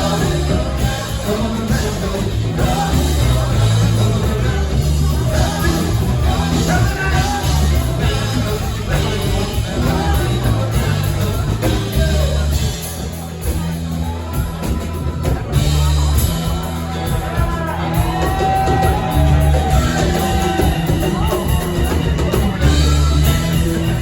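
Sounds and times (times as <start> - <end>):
live rock band playing: 0.0 - 24.0
person singing: 0.0 - 24.0.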